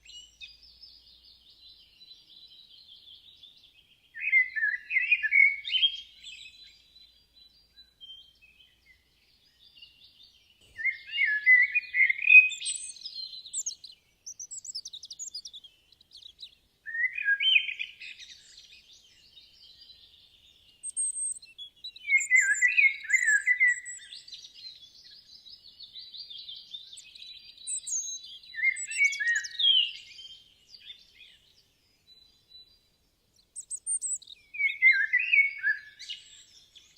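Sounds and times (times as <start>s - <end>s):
faint bird chirping: 0.0s - 36.9s
songbird singing: 0.0s - 36.9s.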